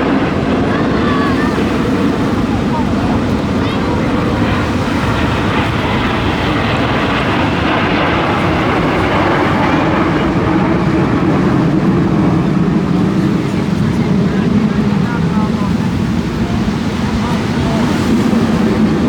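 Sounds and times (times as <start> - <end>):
aircraft engine flying by: 0.0 - 19.0.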